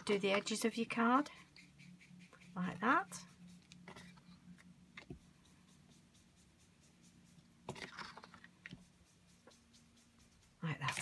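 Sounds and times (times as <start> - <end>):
brush scratching on paper: 0.1 - 11.0.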